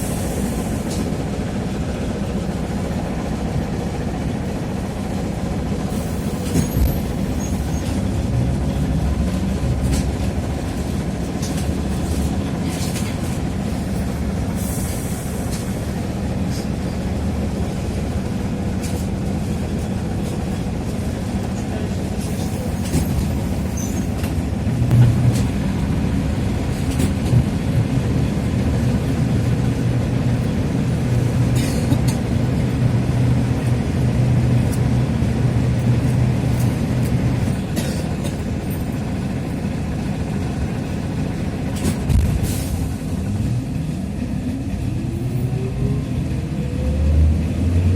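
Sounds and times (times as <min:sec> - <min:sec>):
trolleybus low drone: 0:00.0 - 0:47.9.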